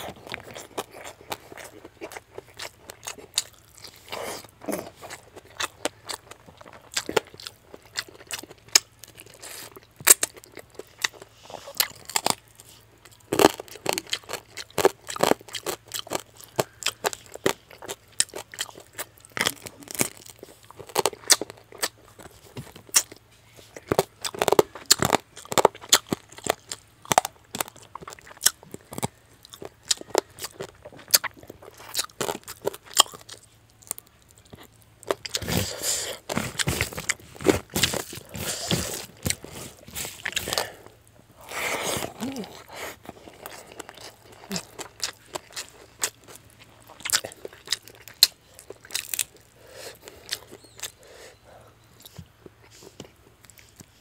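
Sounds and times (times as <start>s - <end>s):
crunching and wet chewing: 0.0s - 54.0s
faint low hum: 0.0s - 54.0s.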